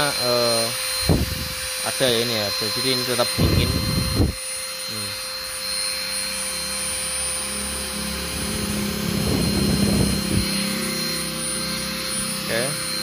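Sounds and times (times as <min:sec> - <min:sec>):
rotary tool motor whine: 0:00.0 - 0:13.0.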